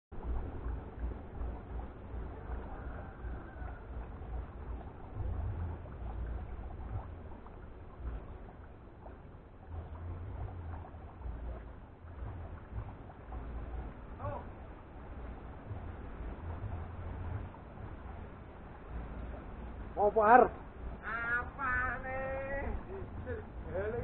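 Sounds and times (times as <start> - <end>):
wind buffeting microphone: 0.1 - 24.0.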